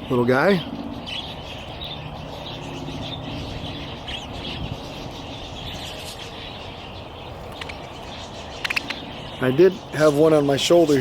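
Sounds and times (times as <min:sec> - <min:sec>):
flock of budgerigars chattering: 0:00.0 - 0:11.0.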